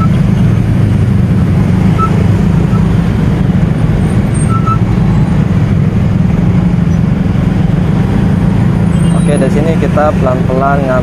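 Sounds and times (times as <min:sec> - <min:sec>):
city traffic: 0:00.0 - 0:11.0
motorcycle engine rumbling: 0:00.0 - 0:11.0.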